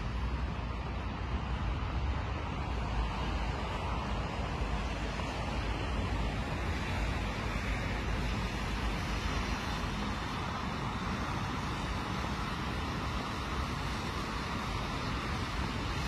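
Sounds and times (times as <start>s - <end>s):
city traffic hiss: 0.0s - 16.0s
wind rumble on microphone: 0.0s - 16.0s.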